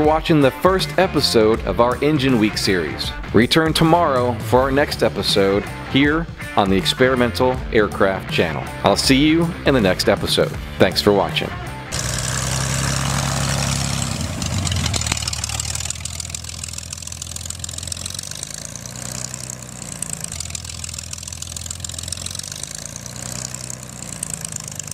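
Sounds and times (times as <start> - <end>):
light aircraft engine and propeller: 0.0 - 24.9.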